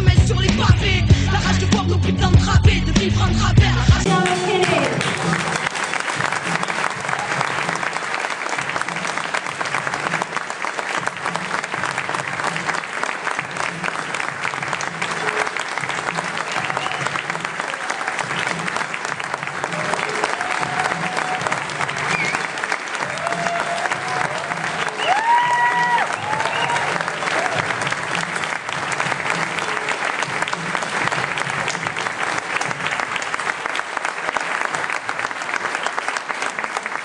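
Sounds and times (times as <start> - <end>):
audience applauding: 4.1 - 37.0.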